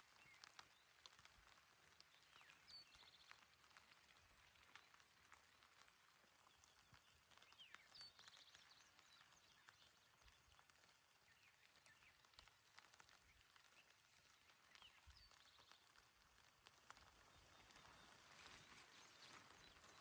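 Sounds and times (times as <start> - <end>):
gentle rain patter: 0.0 - 20.0.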